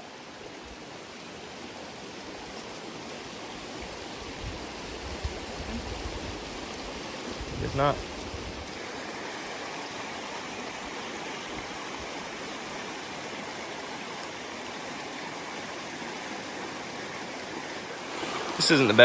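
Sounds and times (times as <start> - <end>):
water running over rocks: 0.0 - 19.0.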